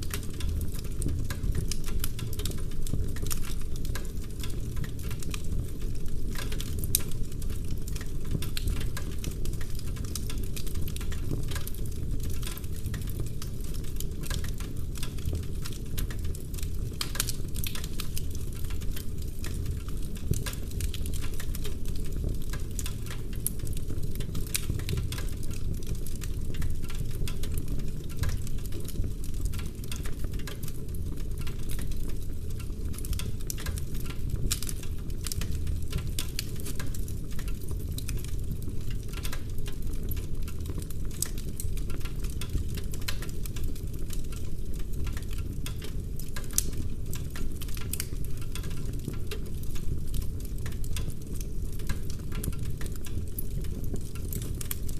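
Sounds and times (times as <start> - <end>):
fire crackling and popping: 0.0 - 54.9
low fire rumble: 0.0 - 54.9.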